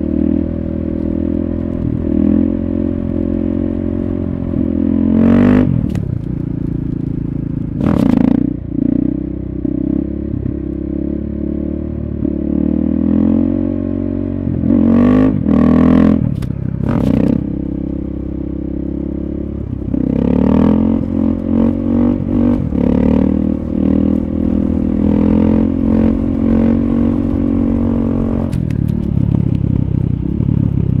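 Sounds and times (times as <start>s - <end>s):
motorcycle engine under throttle: 0.0s - 31.0s.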